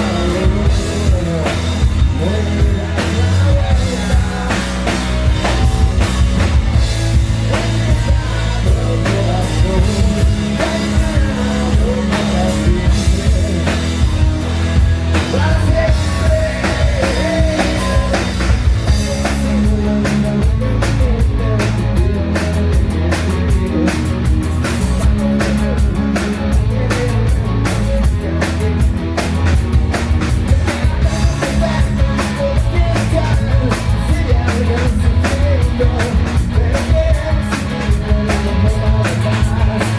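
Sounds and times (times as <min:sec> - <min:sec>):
bass and electric guitars: 0:00.0 - 0:39.9
drum kit beat: 0:00.0 - 0:39.9
lead vocal singing: 0:00.0 - 0:39.9.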